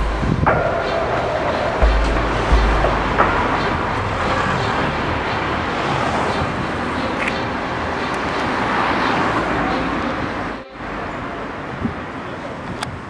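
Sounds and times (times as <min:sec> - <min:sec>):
cars going by: 0:00.0 - 0:13.0.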